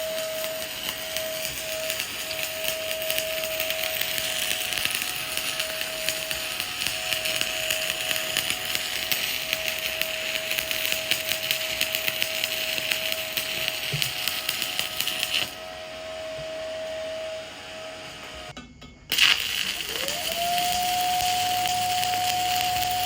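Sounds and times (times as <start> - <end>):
welding arc crackling: 0.0 - 15.8, 19.1 - 23.0.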